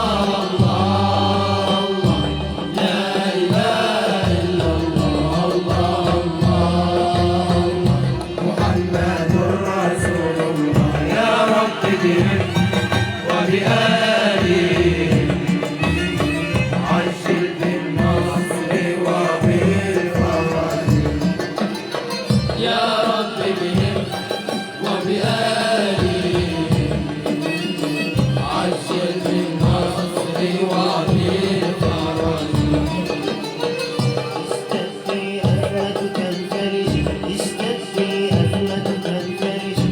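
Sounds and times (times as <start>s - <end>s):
chanted vocal melody: 0.0s - 39.9s
hand-drum strokes: 0.0s - 39.9s.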